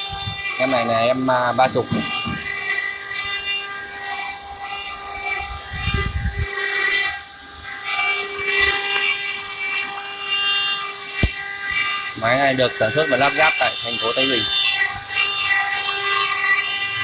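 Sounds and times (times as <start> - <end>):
carving machine high whine: 0.0 - 17.0.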